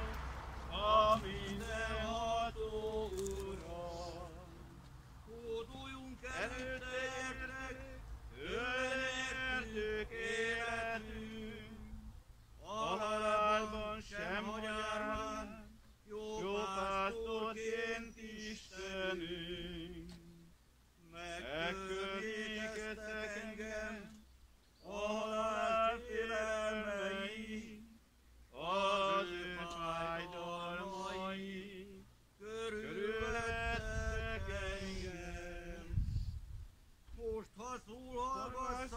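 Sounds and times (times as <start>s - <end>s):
man singing unaccompanied chant: 0.0s - 24.2s, 24.8s - 36.1s, 37.1s - 38.9s.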